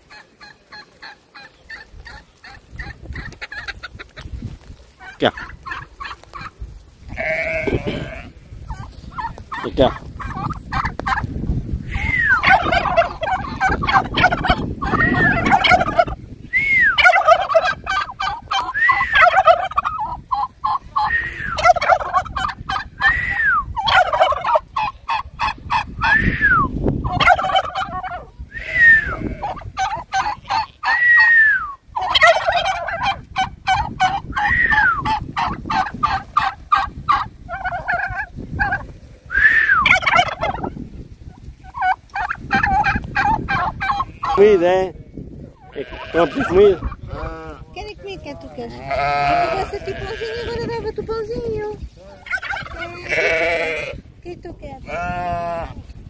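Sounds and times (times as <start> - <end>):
turkeys gobbling: 0.0 - 6.8, 8.7 - 16.2, 16.8 - 28.4, 29.0 - 44.6, 45.4 - 48.4, 52.2 - 53.2.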